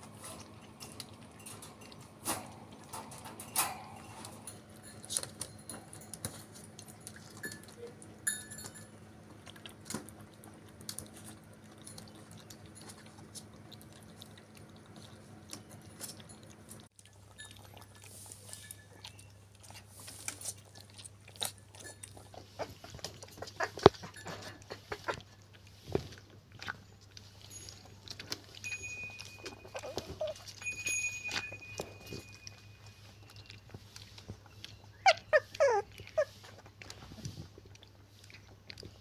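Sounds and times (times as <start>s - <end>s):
puppies lapping milk: 0.0s - 39.0s.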